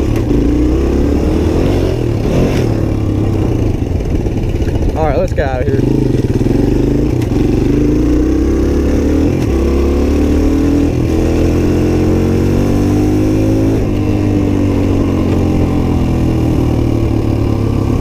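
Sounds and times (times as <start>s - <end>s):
motorcycle engine shifting gears: 0.0s - 18.0s.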